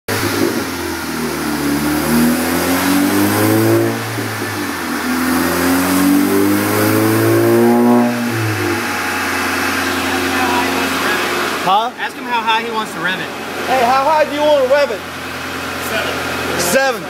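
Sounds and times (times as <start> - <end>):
car engine revving: 0.1 - 17.0.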